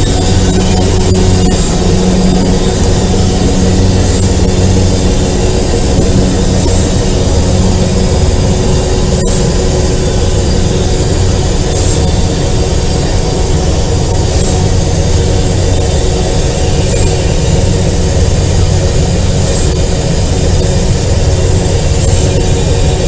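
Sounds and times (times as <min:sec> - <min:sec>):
locomotive diesel engine drone: 0:00.0 - 0:23.0
rail and wheel noise: 0:00.0 - 0:23.0.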